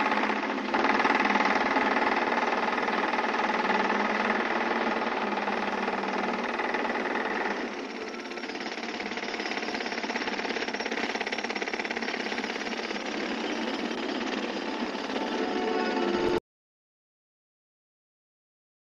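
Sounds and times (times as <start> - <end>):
rapid mechanical rattling: 0.0 - 16.0
continuous machine tone: 0.0 - 16.4.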